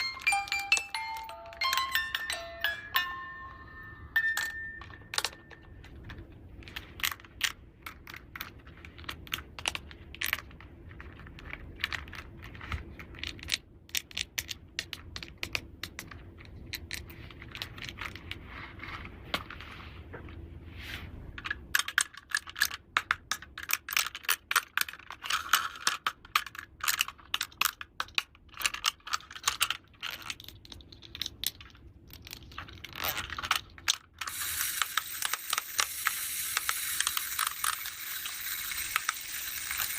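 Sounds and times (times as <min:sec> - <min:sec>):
plastic toy pieces clicking: 0:00.0 - 0:03.2, 0:04.2 - 0:19.5, 0:21.4 - 0:39.9.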